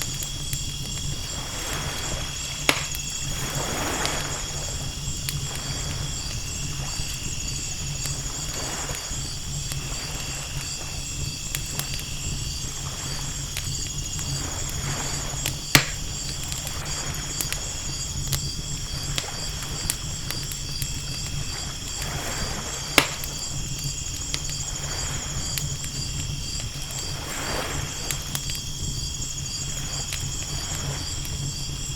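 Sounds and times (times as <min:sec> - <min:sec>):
crackling campfire: 0:00.0 - 0:31.9
night insects trilling: 0:00.0 - 0:31.9
ocean waves washing in: 0:00.0 - 0:31.9
sharp fire pops: 0:00.0 - 0:31.9.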